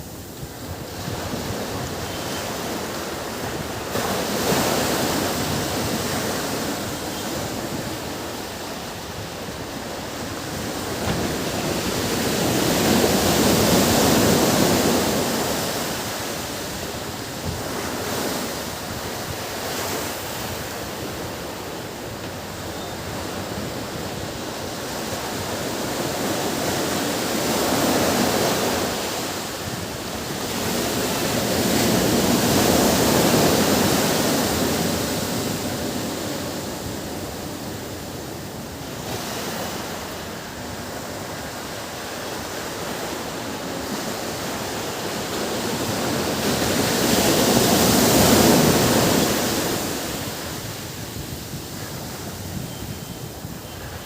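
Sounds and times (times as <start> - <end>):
ocean waves breaking: 0.0 - 54.0
wind: 0.0 - 54.0.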